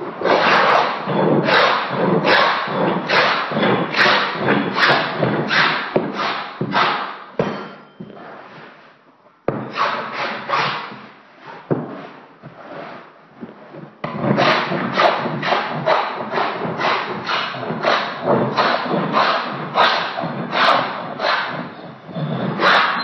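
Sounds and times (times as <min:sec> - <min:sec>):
scraper rasping on wooden floor: 0:00.0 - 0:07.2, 0:09.7 - 0:23.0.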